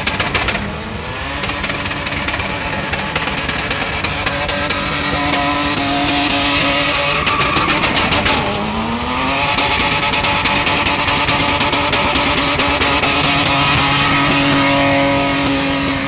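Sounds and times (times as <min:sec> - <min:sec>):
engine revving high: 0:00.0 - 0:16.0
tyres spinning on pavement: 0:00.0 - 0:16.0.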